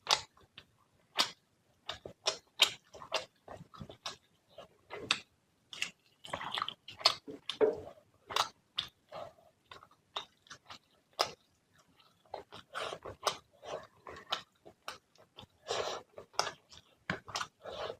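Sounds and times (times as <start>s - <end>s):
chewing with wet mouth smacks: 1.1s - 17.9s.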